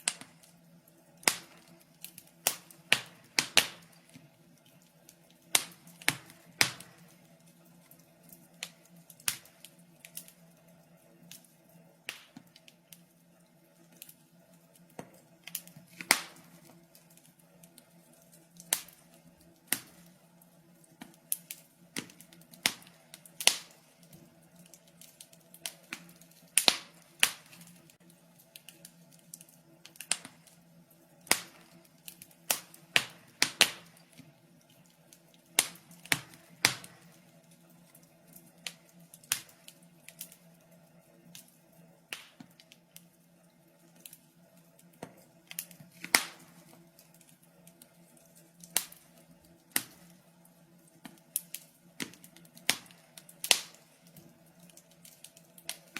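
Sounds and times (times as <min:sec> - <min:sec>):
faint steady hum: 0:00.0 - 0:55.9
wood fire crackling: 0:00.0 - 0:55.9.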